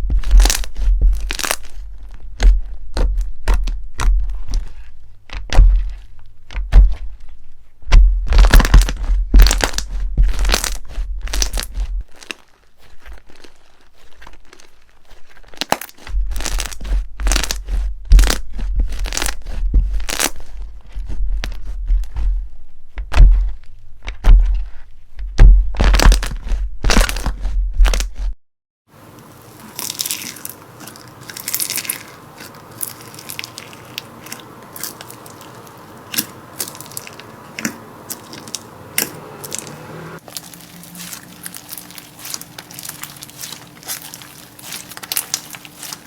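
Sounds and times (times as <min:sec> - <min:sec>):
crunchy slime squeezed by hand: 0:00.0 - 0:07.1, 0:08.0 - 0:22.2, 0:25.4 - 0:28.2, 0:29.5 - 0:46.0.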